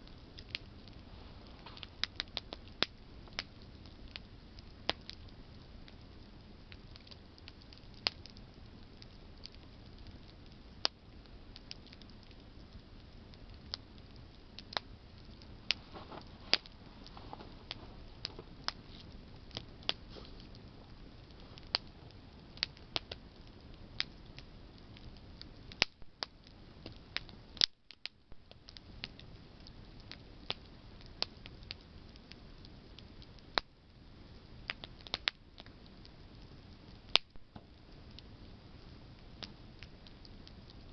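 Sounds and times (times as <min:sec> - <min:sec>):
campfire crackles and pops: 0:00.0 - 0:40.9
low hiss of flames: 0:00.0 - 0:40.9.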